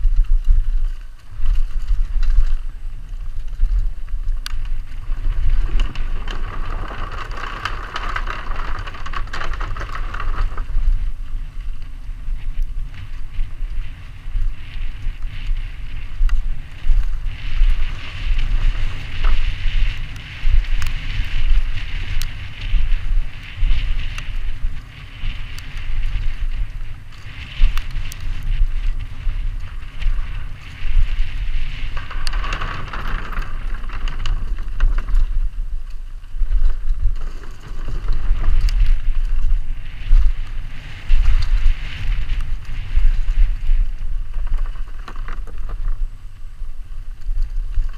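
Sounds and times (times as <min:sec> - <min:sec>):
bike rattling over bumps: 0:00.0 - 0:47.9
bike tyres on dirt: 0:00.0 - 0:47.9
wind buffeting microphone: 0:00.0 - 0:47.9.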